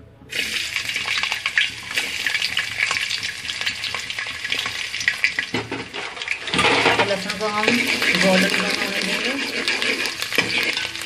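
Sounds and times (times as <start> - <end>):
garlic sizzling in hot oil: 0.3 - 11.0.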